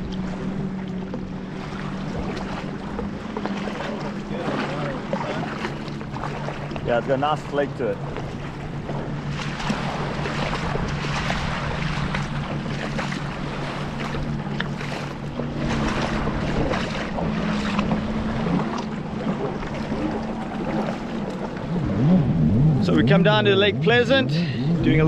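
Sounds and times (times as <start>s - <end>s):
jet ski engine running: 0.0s - 25.0s
water rushing: 0.0s - 25.0s.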